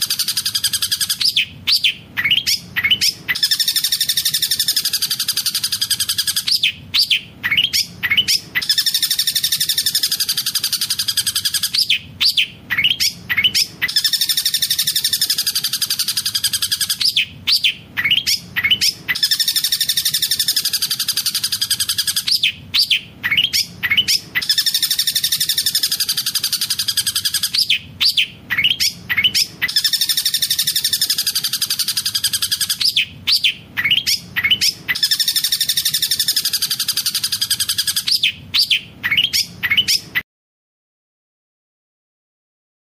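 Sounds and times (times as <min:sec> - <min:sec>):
shrike singing rolling trills: 0:00.0 - 0:40.2.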